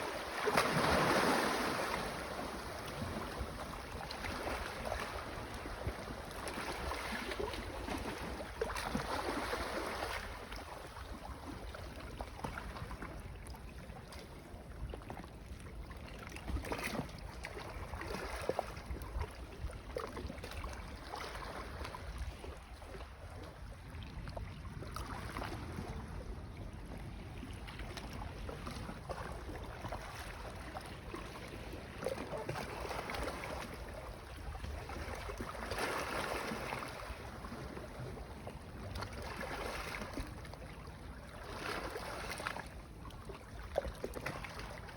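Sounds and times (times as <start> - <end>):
small waves lapping: 0.0 - 44.9.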